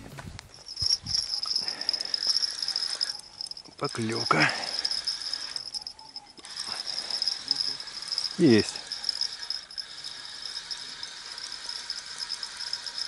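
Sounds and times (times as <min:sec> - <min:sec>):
crickets chirping: 0:00.4 - 0:13.0.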